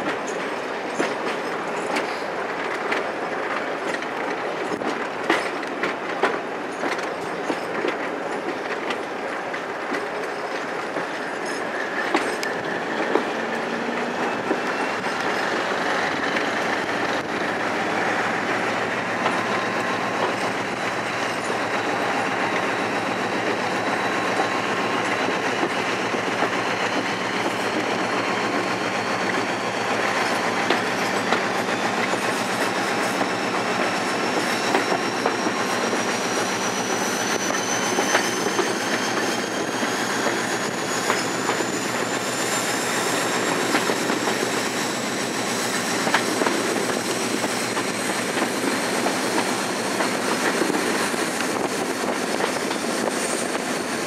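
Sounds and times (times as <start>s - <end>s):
train rumble: 0.0s - 54.0s
wheels clacking over rail joints: 0.0s - 54.0s.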